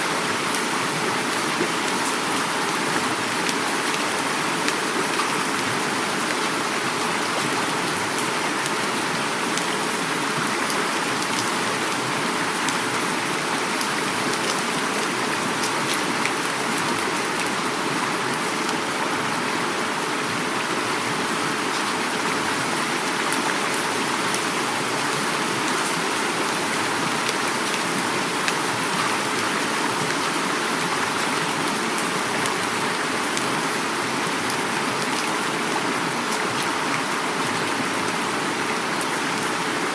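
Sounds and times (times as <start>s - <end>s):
flowing river water: 0.0s - 39.9s
heavy rain falling: 0.0s - 39.9s.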